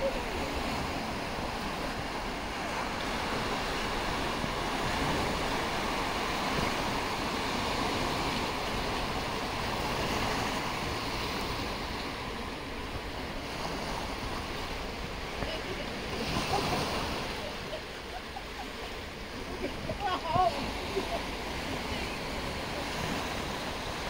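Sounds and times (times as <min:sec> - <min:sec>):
waves washing up beach: 0:00.0 - 0:24.0.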